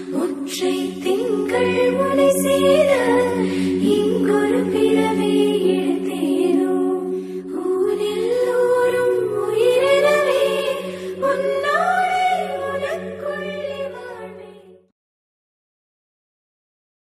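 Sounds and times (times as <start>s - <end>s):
low drone: 0.0s - 14.8s
voices singing slow melody: 0.0s - 14.9s.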